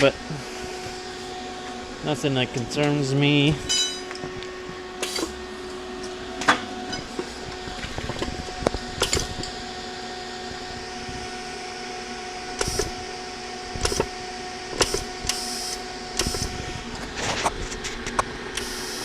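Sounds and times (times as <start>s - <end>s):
cooling fans humming: 0.0s - 19.0s.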